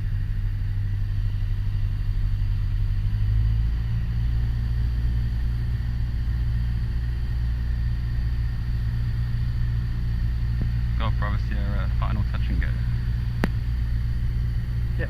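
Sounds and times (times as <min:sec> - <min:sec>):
aircraft piston engine droning: 0:00.0 - 0:15.0.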